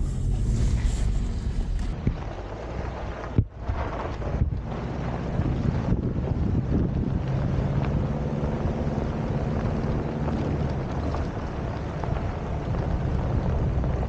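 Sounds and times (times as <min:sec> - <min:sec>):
low engine hum: 0:00.0 - 0:14.0
tyres rolling on gravel: 0:00.0 - 0:14.0
wind rushing over microphone: 0:00.0 - 0:14.0.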